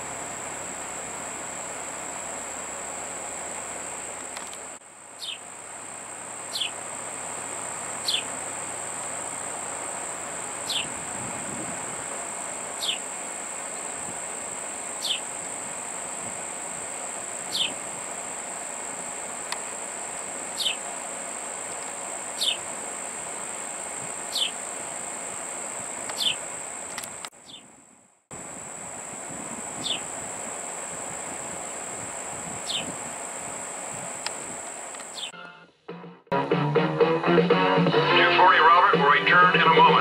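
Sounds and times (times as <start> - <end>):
insects trilling: 0.0 - 27.7, 28.3 - 35.3.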